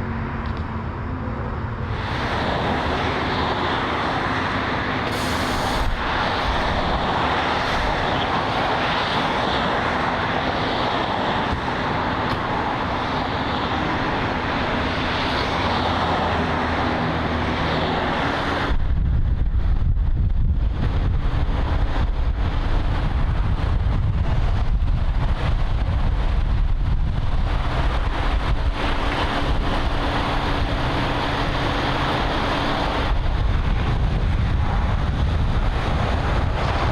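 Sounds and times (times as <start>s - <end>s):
freeway traffic roar: 0.0s - 36.9s
wind buffeting microphone: 0.0s - 36.9s.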